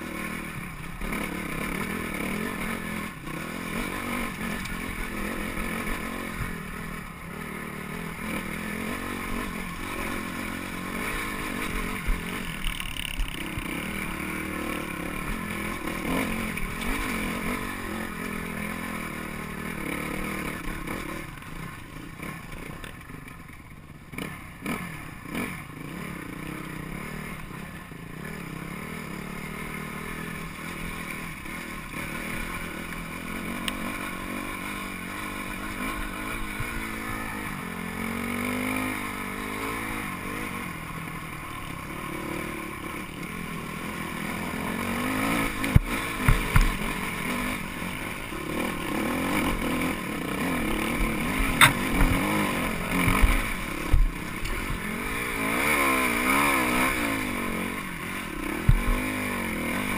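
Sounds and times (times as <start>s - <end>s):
dirt bike engine revving: 0.0s - 23.2s, 24.1s - 59.9s.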